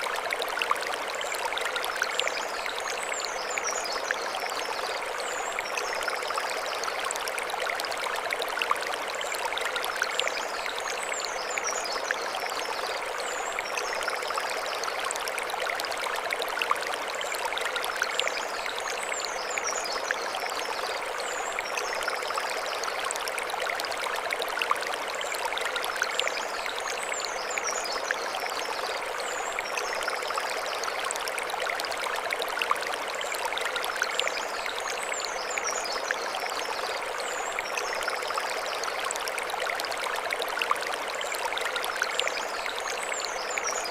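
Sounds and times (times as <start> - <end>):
stream running over stones: 0.0 - 43.9.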